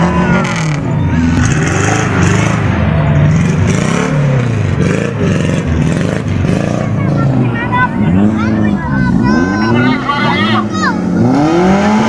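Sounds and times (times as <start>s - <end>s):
car engine revving past: 0.0s - 12.0s.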